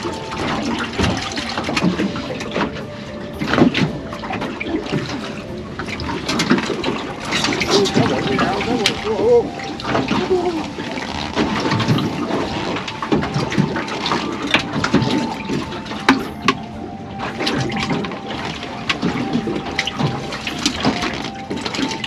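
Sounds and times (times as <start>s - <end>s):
water sloshing and gurgling: 0.0s - 22.0s.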